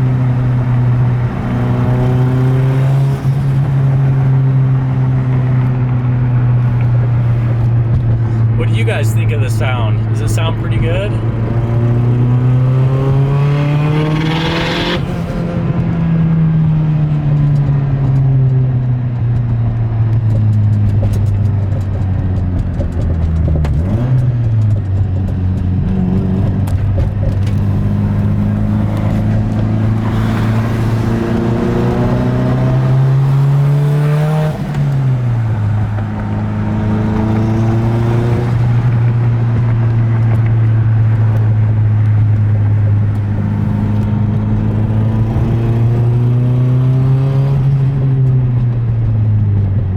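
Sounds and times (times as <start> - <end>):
car engine under load: 0.0 - 49.9.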